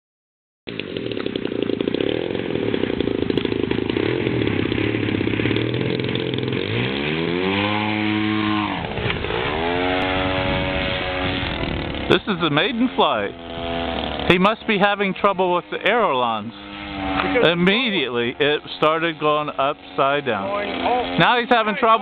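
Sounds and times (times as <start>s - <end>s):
model plane engine buzzing: 0.7s - 22.0s.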